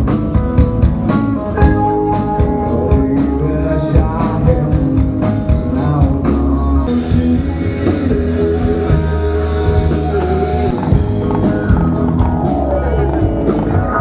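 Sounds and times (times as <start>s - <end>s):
drum beat: 0.0s - 14.0s
rock band playing: 0.0s - 14.0s
person singing: 1.6s - 14.0s.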